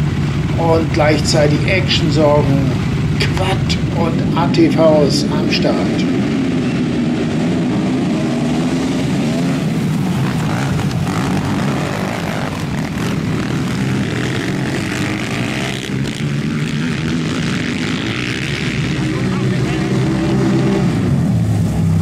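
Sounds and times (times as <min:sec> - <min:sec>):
quad engines revving: 0:00.0 - 0:22.0.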